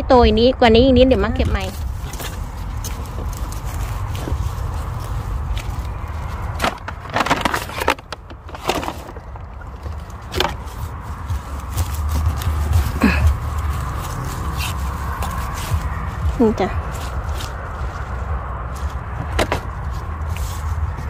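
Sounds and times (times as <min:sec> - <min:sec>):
low microphone rumble: 0:00.0 - 0:21.0
twigs crunching underfoot: 0:01.4 - 0:21.0.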